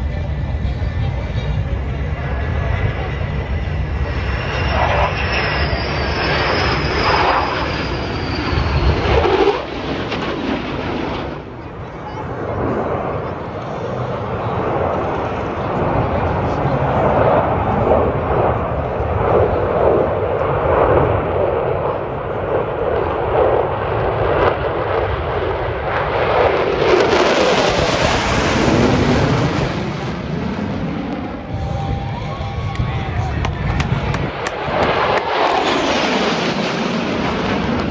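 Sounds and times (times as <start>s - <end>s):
jet fighter roaring by: 0.0s - 37.9s.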